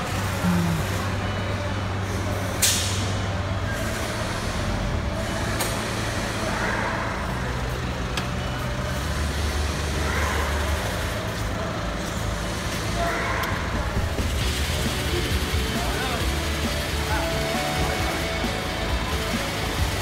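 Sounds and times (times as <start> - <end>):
low hum of machinery and engines: 0.0 - 20.0.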